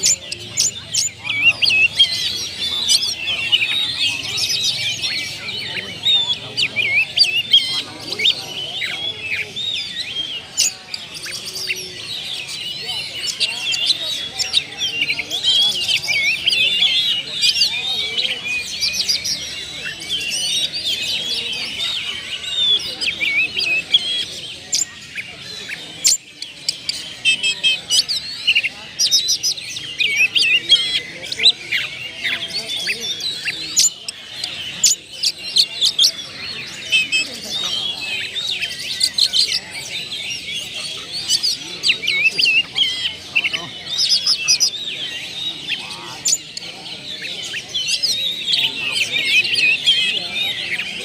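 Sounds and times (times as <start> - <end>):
magpie-robin singing: 0.0 - 51.0.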